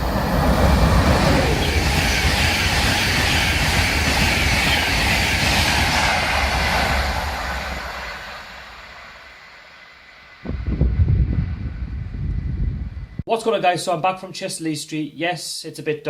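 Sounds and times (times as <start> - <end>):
passenger train passing: 0.0 - 13.2.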